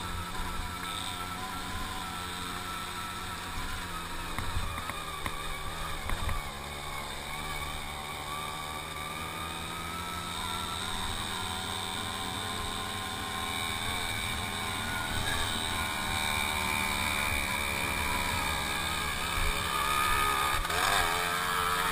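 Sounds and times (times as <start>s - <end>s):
moped engine running: 0.0s - 21.9s.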